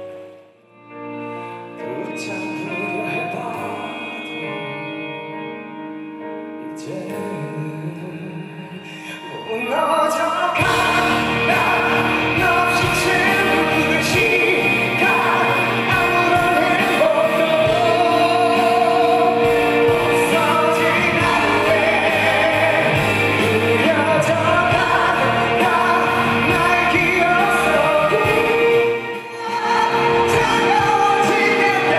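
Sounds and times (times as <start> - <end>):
band with electric guitars: 0.0 - 31.9
man singing into microphone: 1.8 - 5.4, 6.6 - 31.9.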